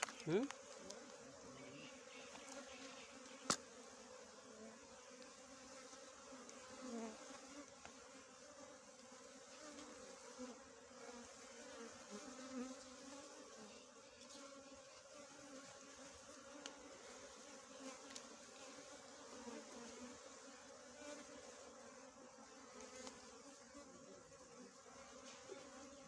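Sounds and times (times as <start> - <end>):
bees buzzing: 0.0 - 26.0.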